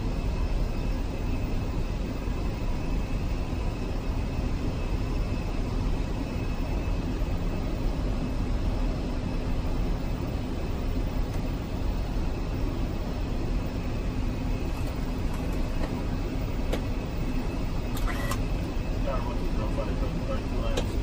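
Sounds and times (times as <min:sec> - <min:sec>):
faint constant tone: 0:00.0 - 0:21.0
cockpit rush and drone: 0:00.2 - 0:21.0.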